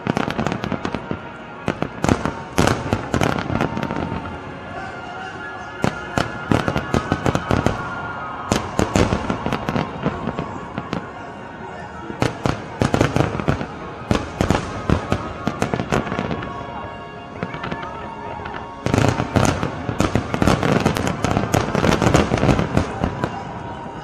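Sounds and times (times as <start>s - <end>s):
fireworks bursting and crackling: 0.0s - 4.8s, 5.7s - 24.0s.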